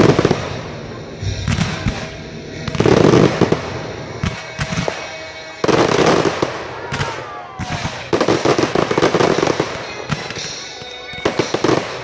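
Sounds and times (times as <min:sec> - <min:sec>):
fireworks booming and popping: 0:00.0 - 0:12.0
rapid fireworks crackling: 0:00.0 - 0:12.0.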